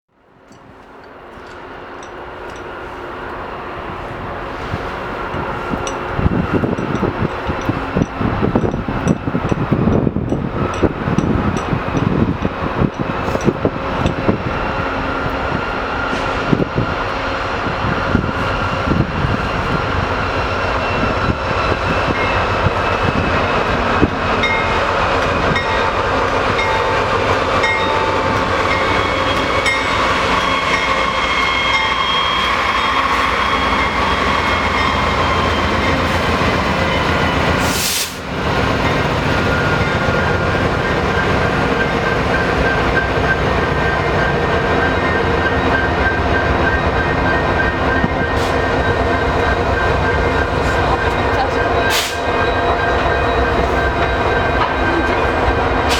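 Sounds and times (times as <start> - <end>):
train rumbling on rails: 0.2 - 55.9
rail clicks: 0.4 - 55.9.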